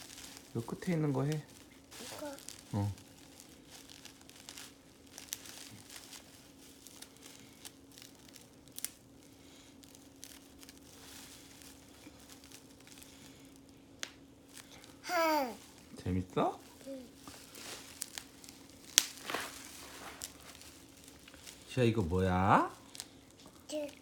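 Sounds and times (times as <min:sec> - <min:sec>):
bubble wrap pops: 0:00.0 - 0:16.0, 0:16.6 - 0:24.0
bubble wrap crinkling: 0:00.0 - 0:24.0.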